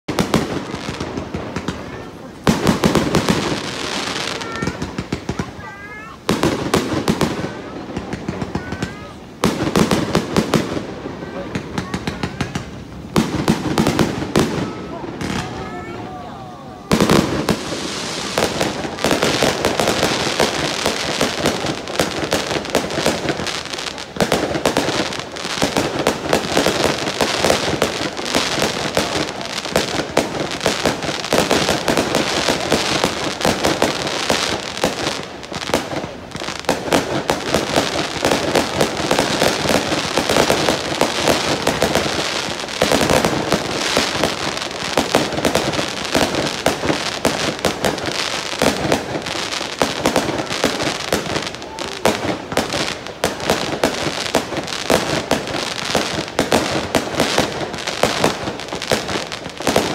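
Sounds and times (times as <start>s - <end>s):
fireworks crackling and popping: 0.0s - 59.9s.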